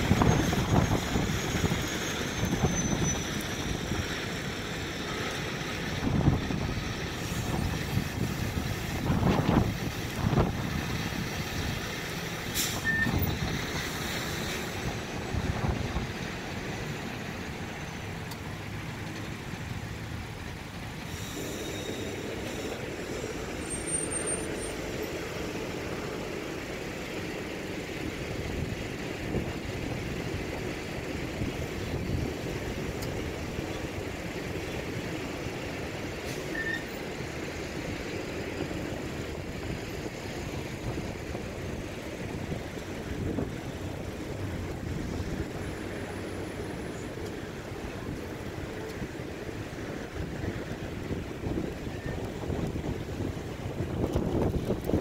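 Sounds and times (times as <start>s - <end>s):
cars rolling past slowly: 0.0s - 55.0s.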